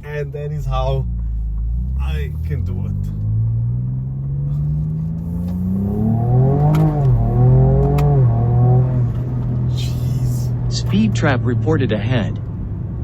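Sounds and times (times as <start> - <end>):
exhaust cracks: 0.0 - 11.7
car engine accelerating hard: 0.0 - 13.0.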